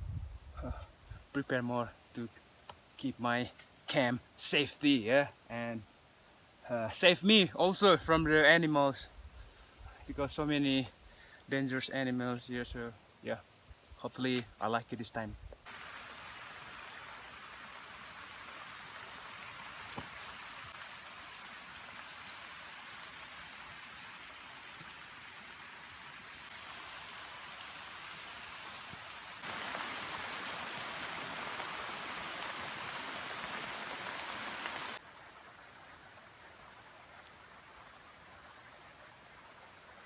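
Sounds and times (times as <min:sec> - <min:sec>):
rain falling in forest: 0:00.6 - 0:14.6, 0:15.6 - 0:40.0.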